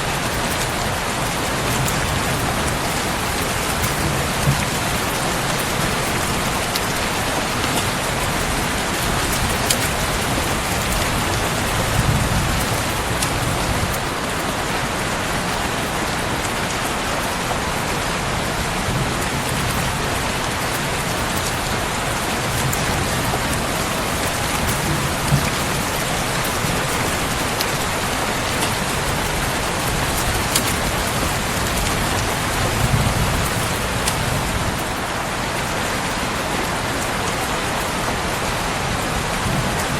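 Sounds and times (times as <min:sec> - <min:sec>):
steady rain falling: 0:00.0 - 0:39.9
wood fire crackling: 0:00.1 - 0:17.7, 0:18.4 - 0:36.1.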